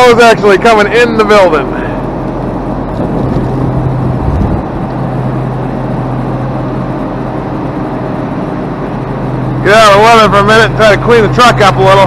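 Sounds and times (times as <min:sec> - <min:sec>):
diesel truck idling: 0:00.0 - 0:12.0.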